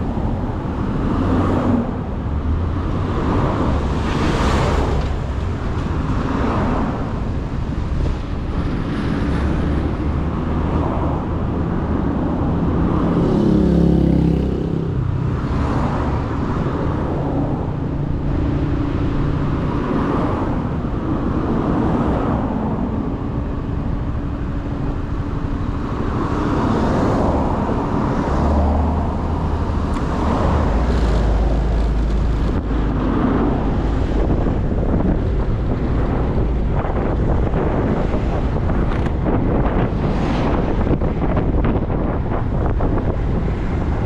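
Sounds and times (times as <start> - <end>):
wind on microphone: 0.0 - 44.0.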